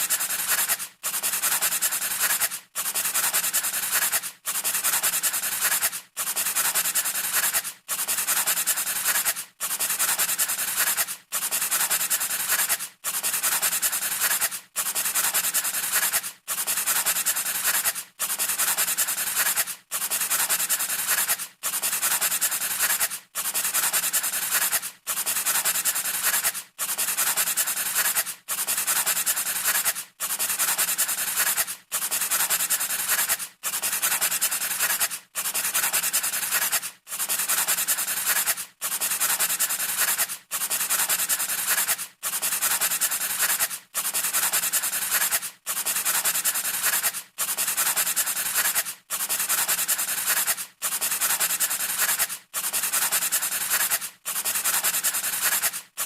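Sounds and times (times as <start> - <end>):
scratchy rubbing noise: 0.0 - 56.0.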